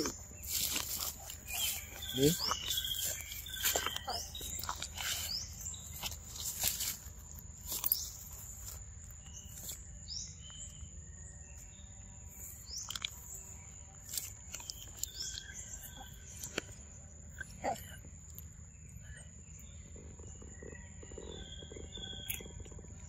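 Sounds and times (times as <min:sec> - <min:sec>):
bird chirps: 0:00.0 - 0:23.0
insects droning: 0:00.0 - 0:23.0.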